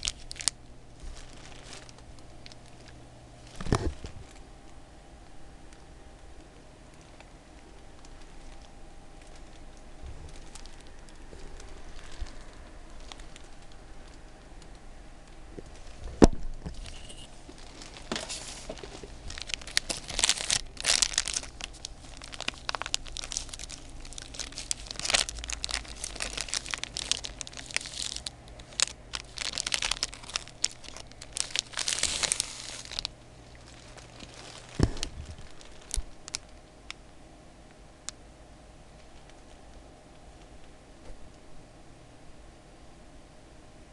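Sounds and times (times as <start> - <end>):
crisp bread crust crackling: 0.0 - 4.8, 5.7 - 37.1
plastic wrapper crinkling: 0.0 - 4.8, 6.8 - 37.1, 39.0 - 40.6.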